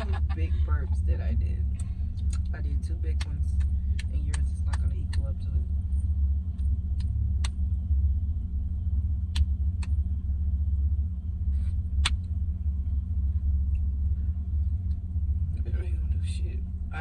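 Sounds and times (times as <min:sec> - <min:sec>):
low engine rumble and hum: 0:00.0 - 0:17.0.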